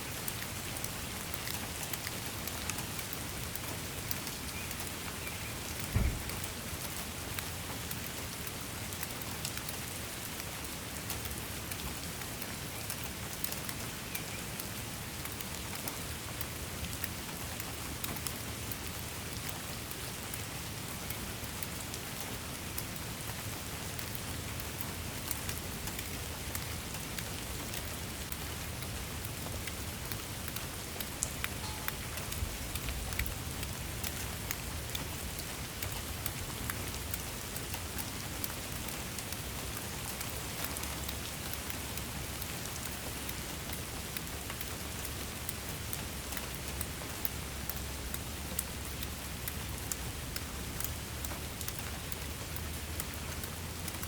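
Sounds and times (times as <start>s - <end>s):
steady rain on a surface: 0.0s - 54.0s.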